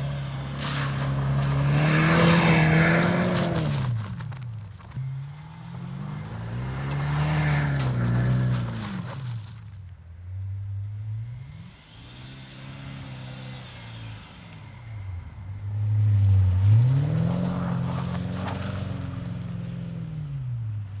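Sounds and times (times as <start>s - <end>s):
car engine revving: 0.0s - 20.8s.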